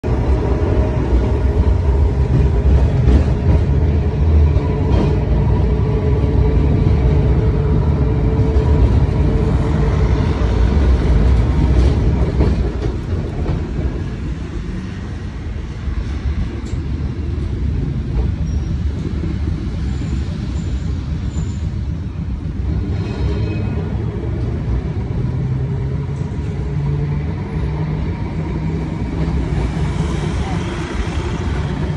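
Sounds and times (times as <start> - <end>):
tram rumbling on rails: 0.0 - 31.9.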